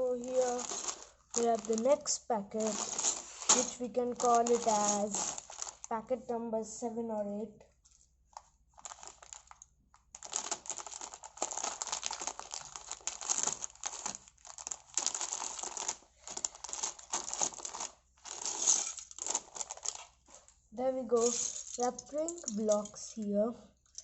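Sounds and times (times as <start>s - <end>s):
plastic bag crinkling: 0.0s - 5.9s, 7.9s - 20.5s, 21.1s - 23.2s.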